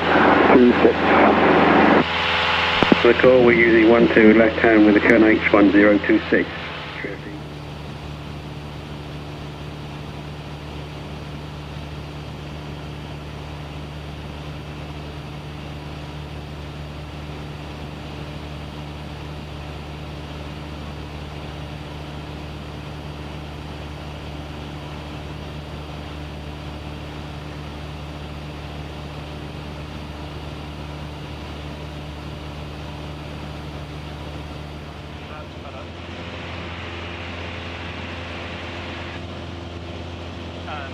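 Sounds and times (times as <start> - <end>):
aircraft engine and propeller droning: 0.0 - 40.9
constant low hum: 0.0 - 40.9.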